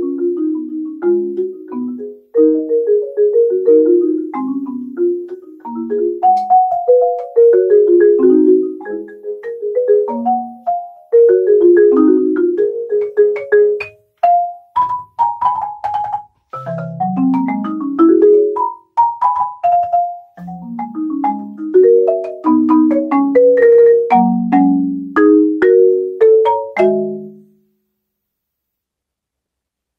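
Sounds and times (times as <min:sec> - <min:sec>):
solo marimba playing: 0:00.0 - 0:27.6.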